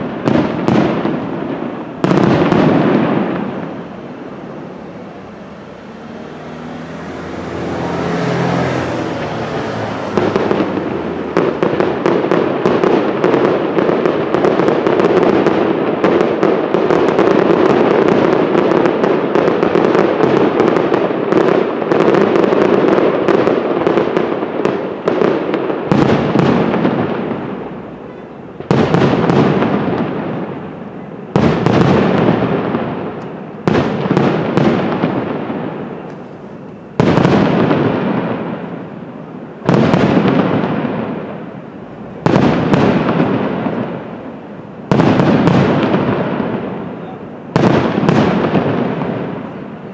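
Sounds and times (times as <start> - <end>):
fireworks crackling bangs: 0.0 - 49.9.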